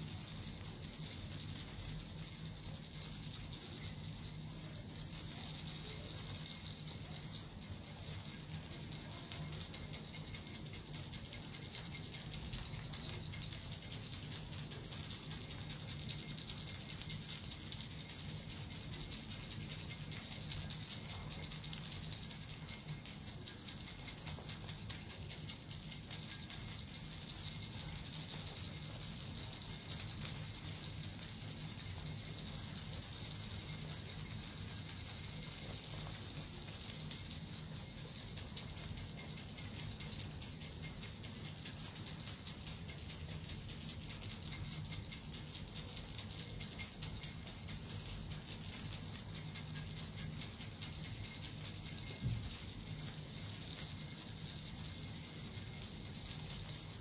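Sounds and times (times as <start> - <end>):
small bells jingling: 0.0 - 57.0.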